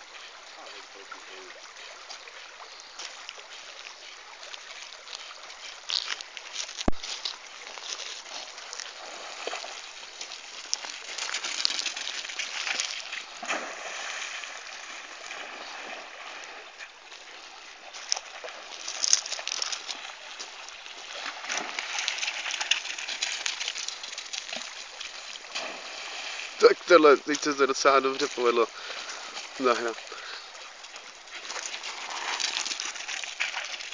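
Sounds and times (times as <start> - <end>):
dog splashing through water: 0.0 - 17.2, 17.8 - 33.9
running stream: 0.0 - 33.9.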